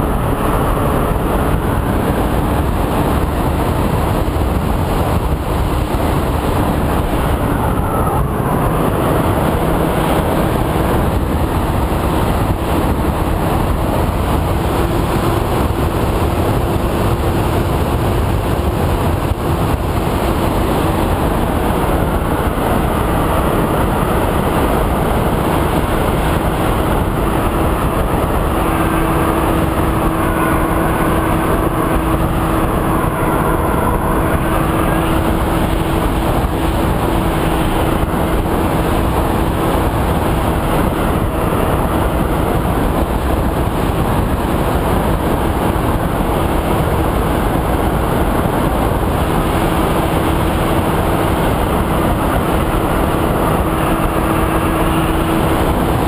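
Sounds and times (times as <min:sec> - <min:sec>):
electric motor and propeller hum: 0:00.0 - 0:56.0
wind rushing over camera: 0:00.0 - 0:56.0.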